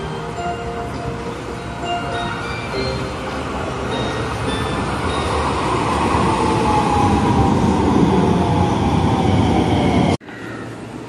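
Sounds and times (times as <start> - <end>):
falling whine of train: 0.0 - 11.0
train cars rumbling past: 0.0 - 11.0.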